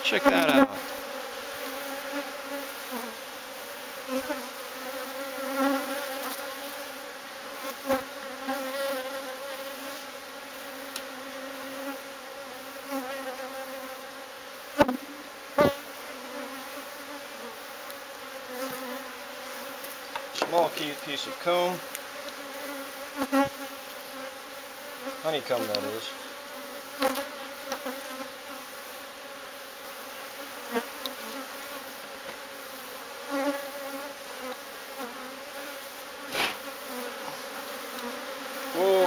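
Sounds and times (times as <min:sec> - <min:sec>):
bees buzzing: 0:00.0 - 0:39.0.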